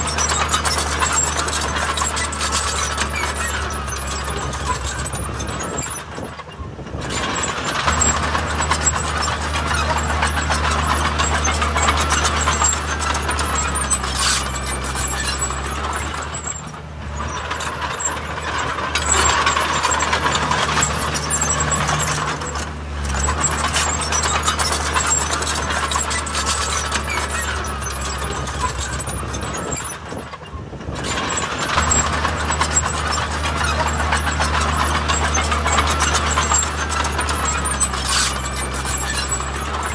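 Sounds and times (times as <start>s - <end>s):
diesel engine drone: 0.0s - 39.9s
mechanical clatter: 0.0s - 39.9s.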